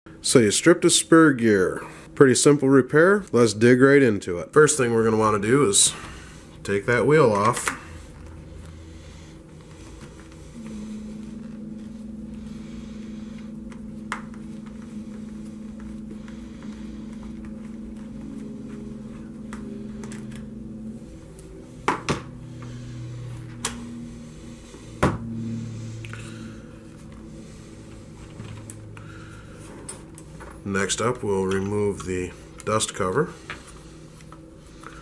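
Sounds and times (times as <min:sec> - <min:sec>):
low steady hum: 0:00.1 - 0:35.0.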